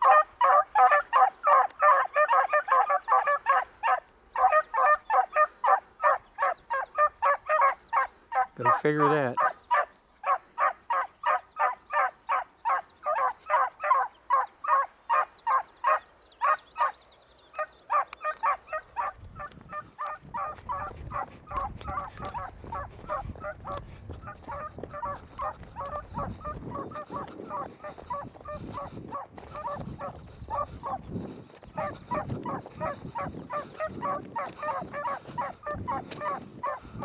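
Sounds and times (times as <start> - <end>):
beagles baying: 0.0 - 37.0.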